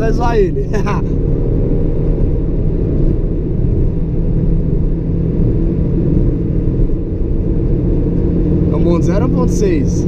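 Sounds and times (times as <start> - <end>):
car engine at speed: 0.0 - 10.0.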